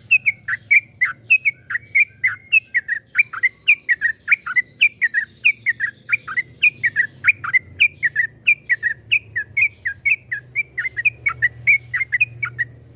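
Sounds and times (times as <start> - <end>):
bird singing whistled notes: 0.0 - 12.9.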